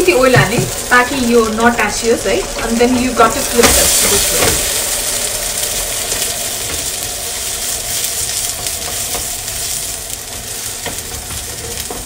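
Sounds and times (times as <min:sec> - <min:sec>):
patty sizzling in oil: 0:00.0 - 0:12.0.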